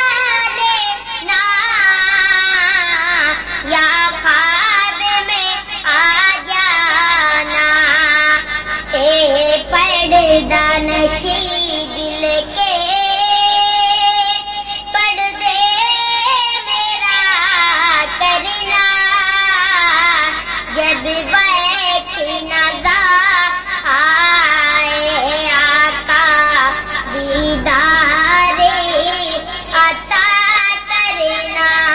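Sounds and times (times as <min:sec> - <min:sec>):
boy singing devotional song: 0:00.0 - 0:31.9.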